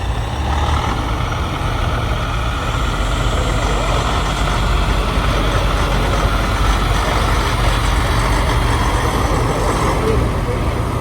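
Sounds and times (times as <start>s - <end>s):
diesel truck engines rumbling: 0.0s - 11.0s.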